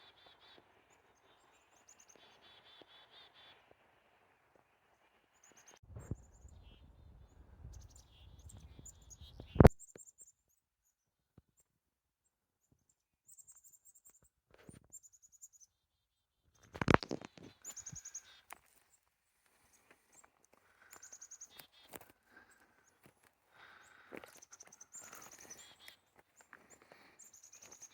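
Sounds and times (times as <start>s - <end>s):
songbirds calling: 0.0s - 11.7s, 12.6s - 27.9s.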